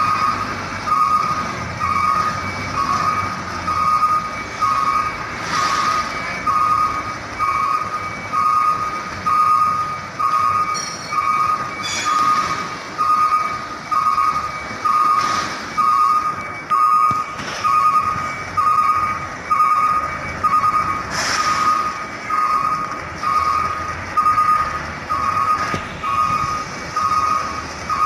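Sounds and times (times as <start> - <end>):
truck reversing alarm beeping: 0.0 - 28.0.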